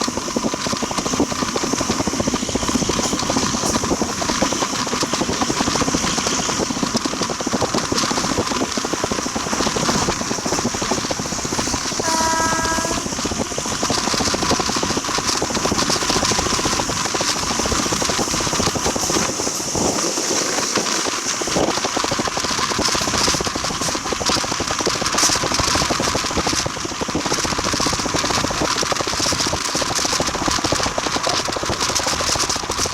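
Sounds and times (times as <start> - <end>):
train rattling and rumbling: 0.0 - 32.9.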